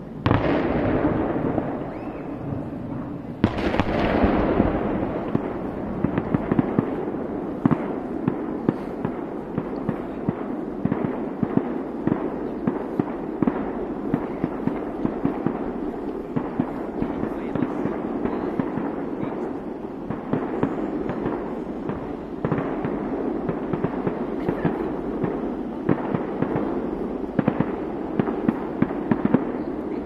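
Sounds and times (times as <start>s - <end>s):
firework crackling pops: 0.0s - 30.0s.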